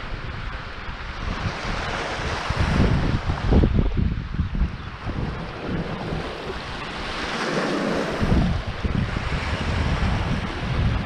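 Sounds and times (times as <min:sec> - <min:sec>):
sea waves washing ashore: 0:00.0 - 0:11.0
wind buffeting microphone: 0:00.0 - 0:11.0.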